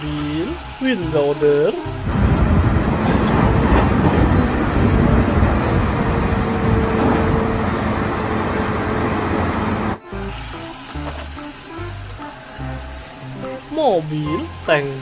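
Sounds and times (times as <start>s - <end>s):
steady whine: 0.0s - 15.0s
wheel loader diesel engine: 0.0s - 15.0s.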